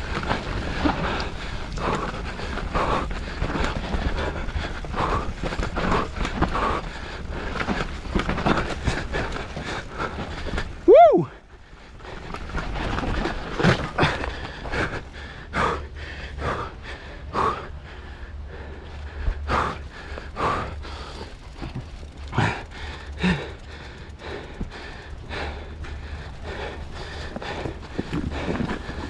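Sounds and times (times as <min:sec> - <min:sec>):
low rumble: 0:00.0 - 0:29.0
person breathing hard: 0:00.1 - 0:29.0.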